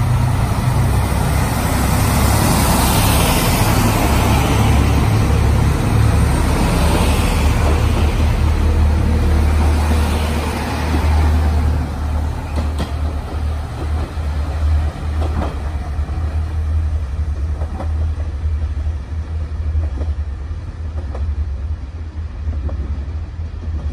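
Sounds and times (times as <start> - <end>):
diesel railcar engine: 0.0 - 23.9.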